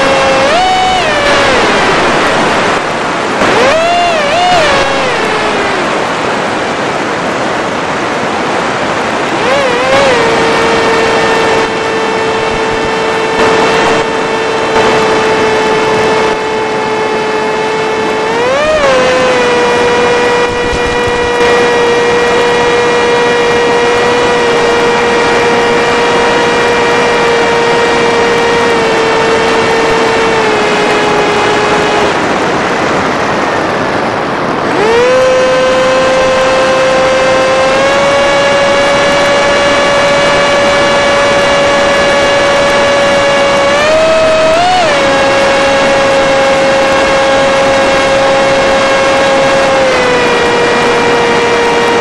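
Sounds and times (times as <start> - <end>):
electric motor and propeller whining: 0.0 - 52.0.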